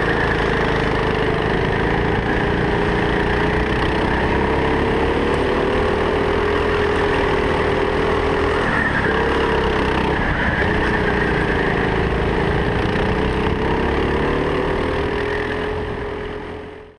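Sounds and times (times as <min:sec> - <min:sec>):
go-kart engine running: 0:00.0 - 0:16.9.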